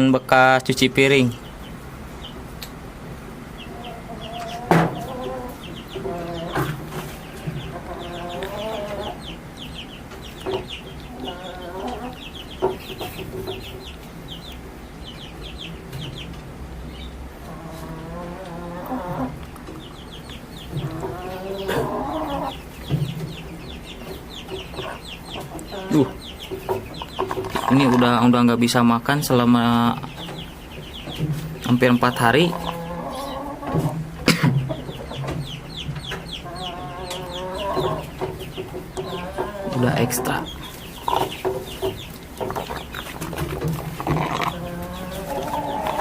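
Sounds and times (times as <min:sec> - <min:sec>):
chicken calling: 0:01.3 - 0:46.0.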